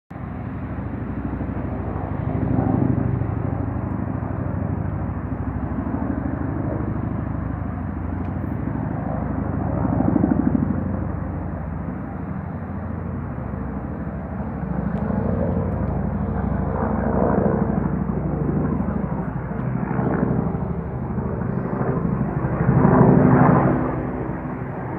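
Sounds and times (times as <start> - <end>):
helicopter rotor pulsing: 0.1 - 24.9
helicopter turbine: 0.1 - 24.9.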